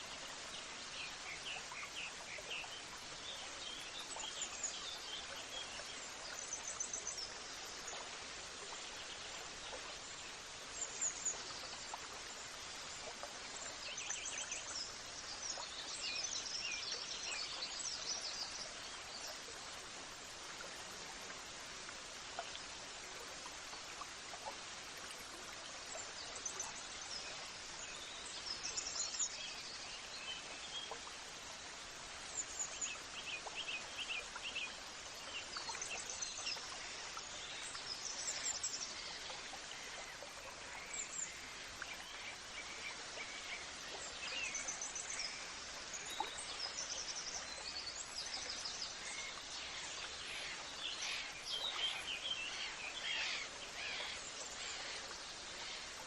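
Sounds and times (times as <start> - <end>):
background hiss: 0.0 - 56.0.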